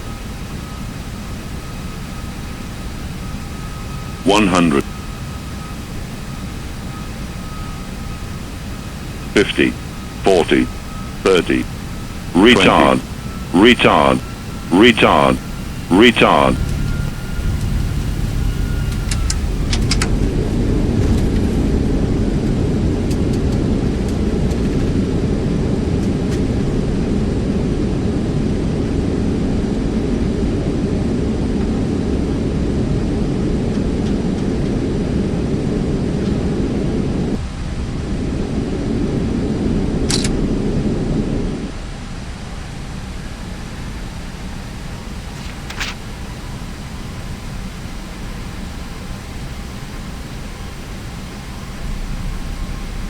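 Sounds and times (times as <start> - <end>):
airplane landing rumble: 0.0 - 53.0.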